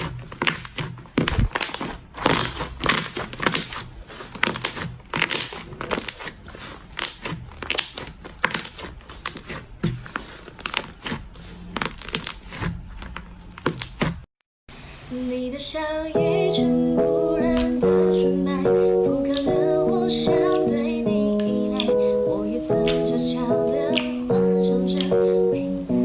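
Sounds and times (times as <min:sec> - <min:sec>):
slime crackling and popping: 0:00.0 - 0:14.3, 0:17.4 - 0:25.4.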